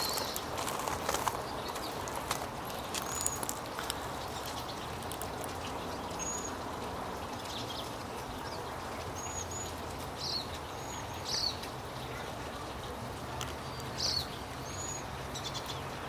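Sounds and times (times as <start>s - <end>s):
songbirds chirping: 0.0s - 16.0s
steady background noise: 0.0s - 16.0s.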